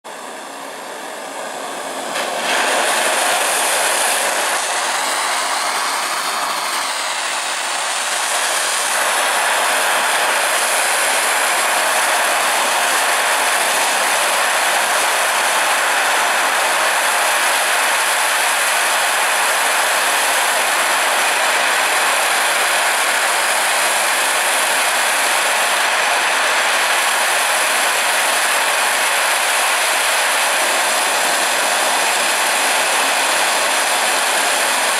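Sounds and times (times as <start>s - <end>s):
gas torch hissing: 0.1s - 34.9s.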